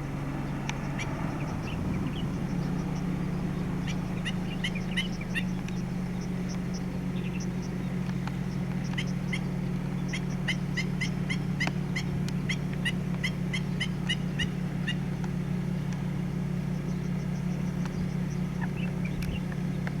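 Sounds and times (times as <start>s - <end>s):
bird alarm calls: 0.0s - 19.9s
steady low hum: 0.0s - 20.0s.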